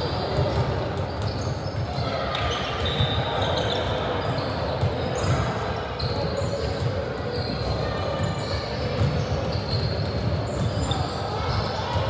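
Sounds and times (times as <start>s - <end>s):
sneakers squeaking: 0.0s - 12.0s
ball bouncing on wooden court: 0.1s - 11.0s.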